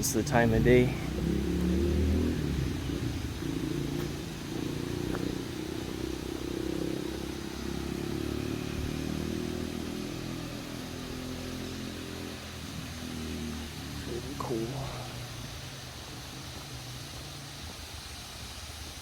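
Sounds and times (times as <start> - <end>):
vehicle engine passing: 0.0 - 17.7.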